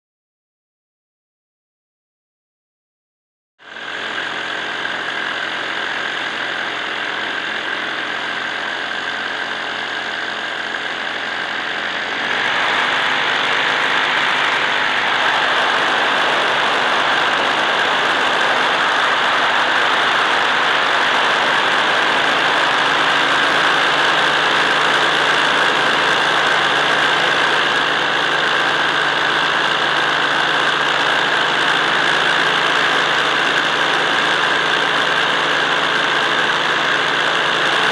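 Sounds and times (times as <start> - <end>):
drone motors whining: 3.7 - 37.9.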